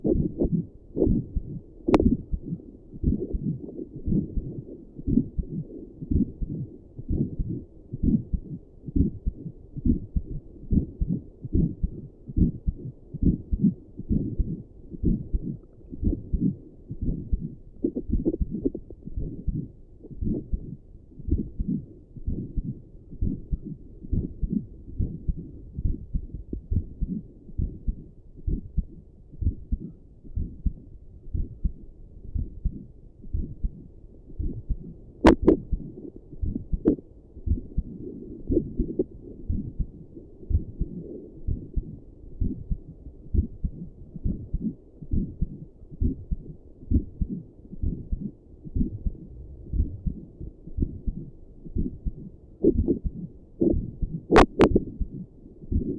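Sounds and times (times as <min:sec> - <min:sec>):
heartbeat through stethoscope: 0:00.0 - 0:55.9.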